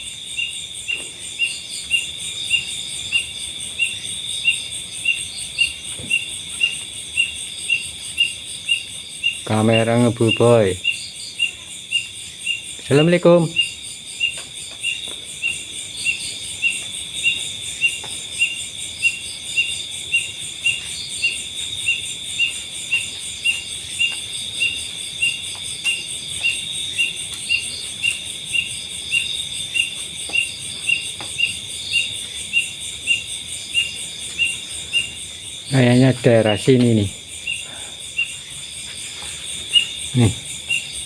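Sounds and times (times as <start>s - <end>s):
night insects buzzing and chirping: 0.0s - 41.0s.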